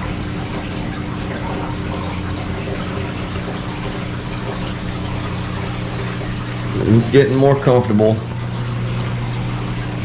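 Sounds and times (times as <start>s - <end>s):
pump hum: 0.0s - 10.0s
water splashing and trickling: 0.0s - 10.0s.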